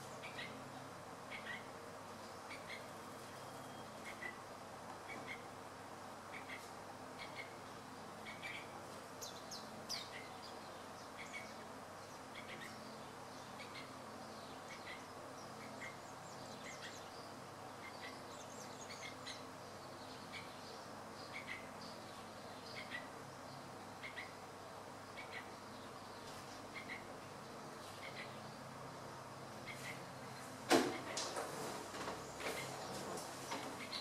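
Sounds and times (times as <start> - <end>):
outdoor ambience hiss: 0.0 - 34.0.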